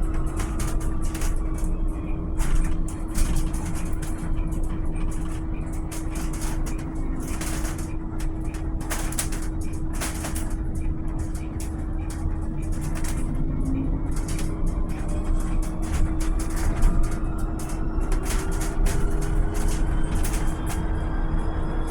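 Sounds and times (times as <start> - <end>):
bus road rumble and hum: 0.0 - 21.9.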